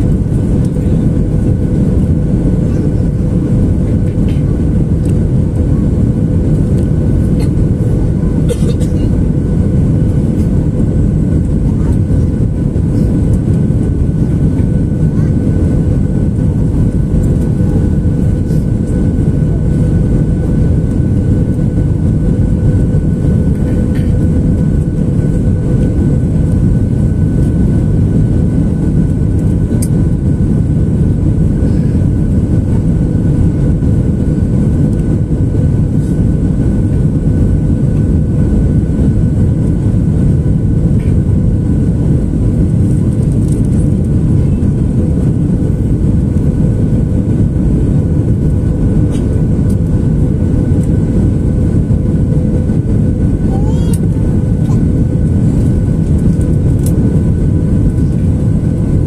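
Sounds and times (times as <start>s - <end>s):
jet engines and airflow drone: 0.0s - 59.0s.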